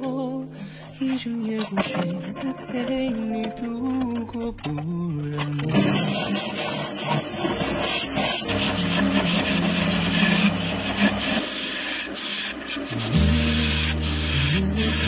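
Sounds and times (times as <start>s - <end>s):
background music with low notes: 0.0s - 15.0s
lathe tool shaving wood: 0.6s - 15.0s.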